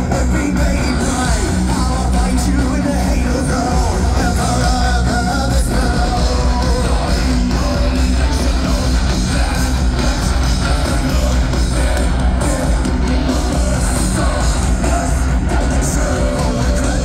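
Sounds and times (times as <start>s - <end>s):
heavy metal band playing live: 0.0s - 17.0s
person singing: 0.0s - 17.0s.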